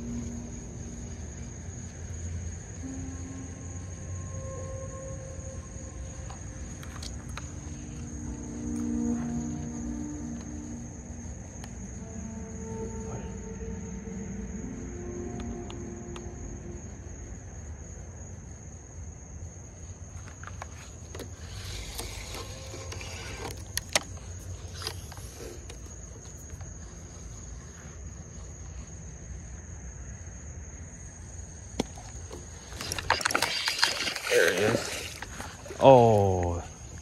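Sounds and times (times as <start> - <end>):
crickets droning: 0.0 - 37.0.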